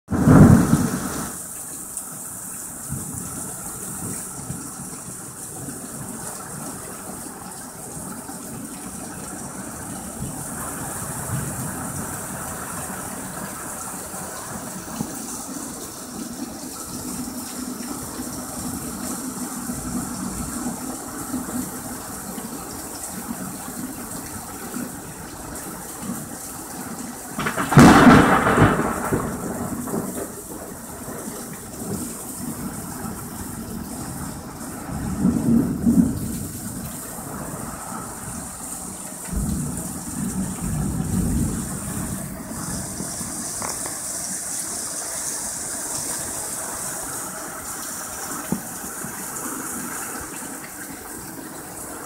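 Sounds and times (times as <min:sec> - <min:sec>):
heavy rain pouring on roofs: 0:00.0 - 0:52.0.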